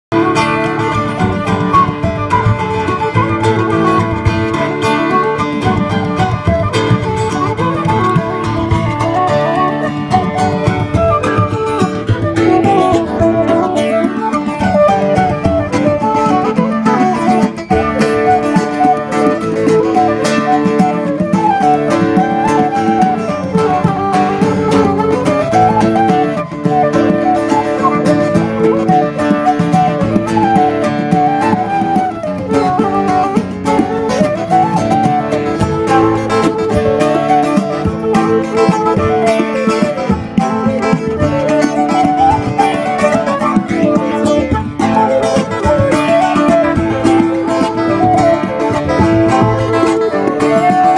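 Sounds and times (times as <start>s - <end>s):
wind instrument melody: 0.0s - 50.9s
strummed acoustic guitar: 0.1s - 50.9s.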